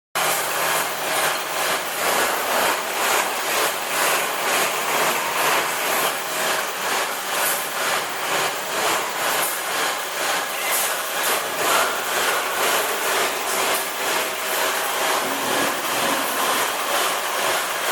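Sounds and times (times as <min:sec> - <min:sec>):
tire shredding machine grinding: 0:00.2 - 0:17.9.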